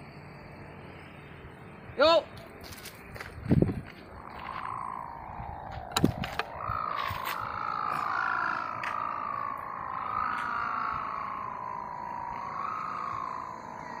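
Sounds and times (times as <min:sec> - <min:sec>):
kite hummer droning: 0:00.0 - 0:14.0.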